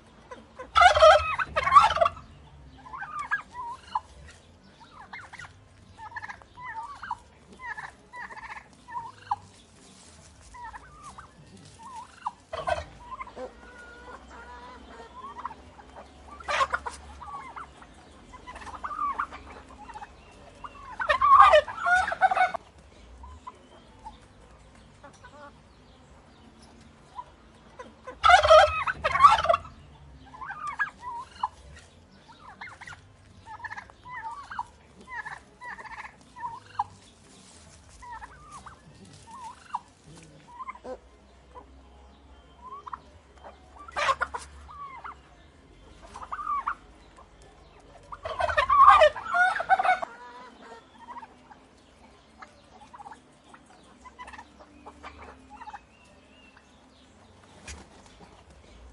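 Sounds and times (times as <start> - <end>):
turkeys gobbling: 0.0 - 41.8, 42.4 - 58.9.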